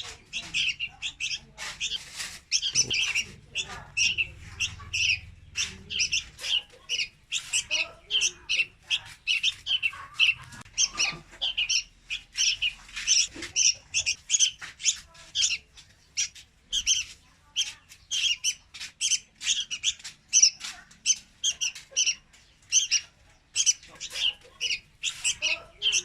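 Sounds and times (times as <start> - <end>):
bird calling in rapid chirps: 0.0 - 26.0.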